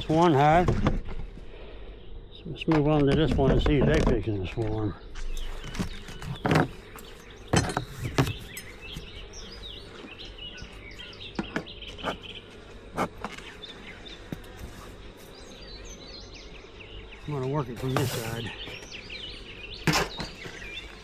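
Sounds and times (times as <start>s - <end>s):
small birds chirping: 0.0s - 21.0s
honeybees buzzing: 3.6s - 21.0s.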